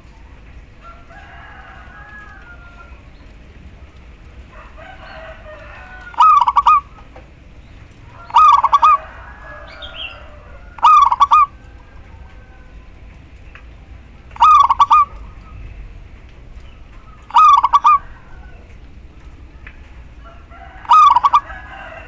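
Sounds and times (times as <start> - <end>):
dove cooing: 0.0 - 16.0, 16.8 - 22.0.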